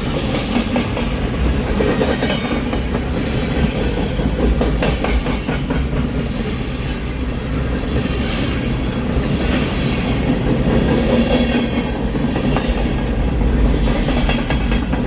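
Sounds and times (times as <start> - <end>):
train cars rumbling: 0.0 - 15.0.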